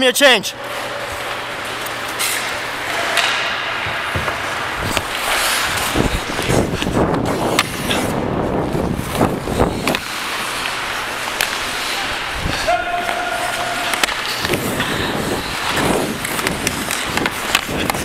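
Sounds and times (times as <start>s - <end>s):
skates scraping on ice: 0.5s - 18.0s.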